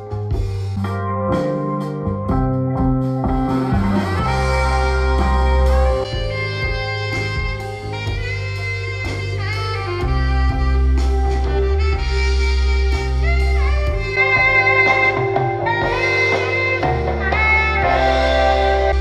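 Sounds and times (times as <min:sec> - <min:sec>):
jazz over loudspeakers: 0:00.0 - 0:19.0.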